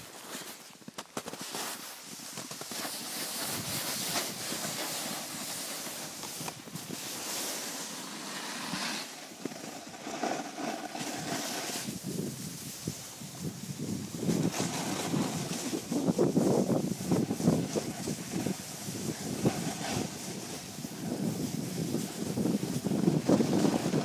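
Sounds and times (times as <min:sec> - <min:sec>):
snowboard scraping over snow: 0:00.0 - 0:24.0.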